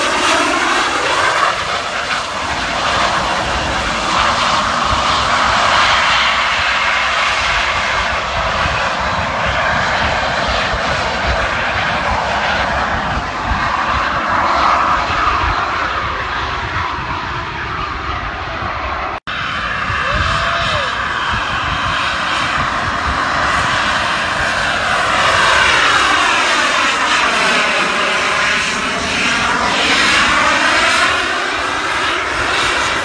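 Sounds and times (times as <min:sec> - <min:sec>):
jet turbine roar with whine: 0:00.0 - 0:33.0.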